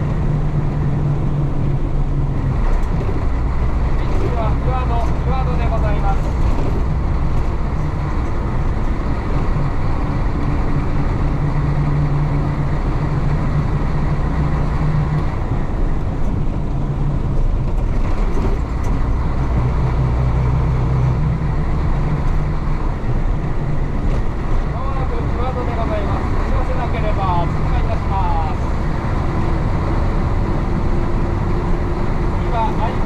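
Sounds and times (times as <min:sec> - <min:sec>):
diesel bus engine running: 0:00.0 - 0:33.0
road noise: 0:00.0 - 0:33.0.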